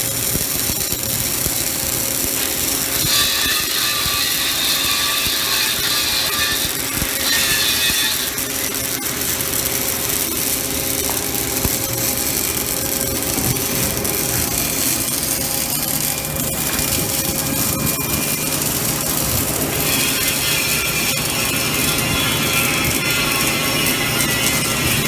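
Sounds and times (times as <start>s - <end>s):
machinery hum: 0.0s - 25.0s
welding arc hissing and crackling: 0.0s - 25.0s.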